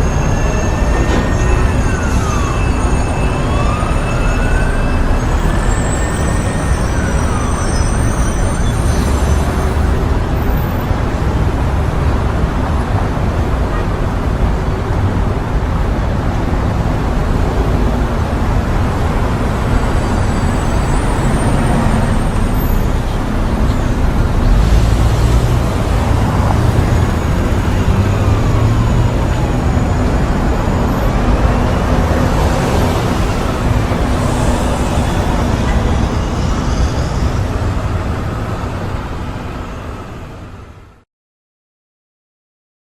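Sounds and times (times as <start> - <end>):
street traffic passing: 0.0 - 41.0.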